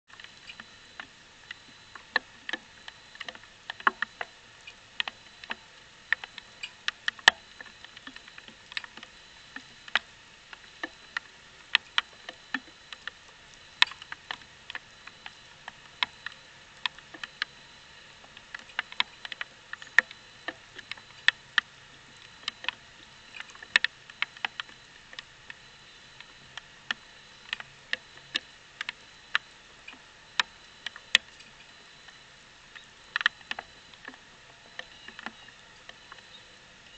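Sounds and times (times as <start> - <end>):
faint steady hiss: 0.1 - 36.9.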